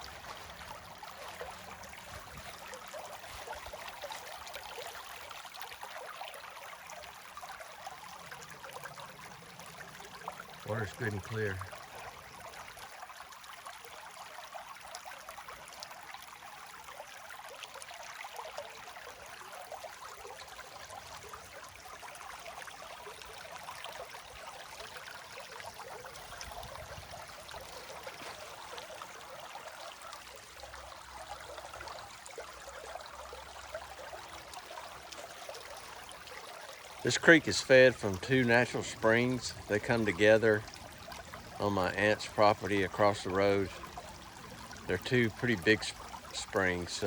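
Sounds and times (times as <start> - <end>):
creek flowing and trickling: 0.0 - 47.0.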